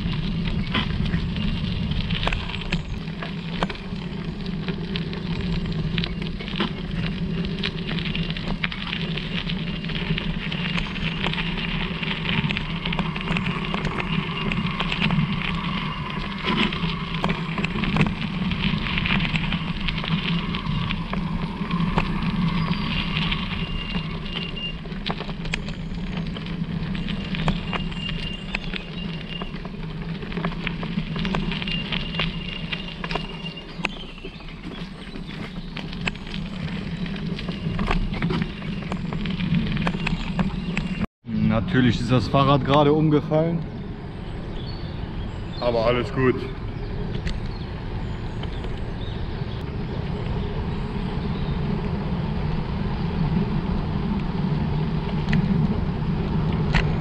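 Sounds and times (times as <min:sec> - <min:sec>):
small crackles and rattles: 0:00.0 - 0:41.1, 0:42.0 - 0:57.0
tyres rumbling on forest track: 0:00.0 - 0:57.0.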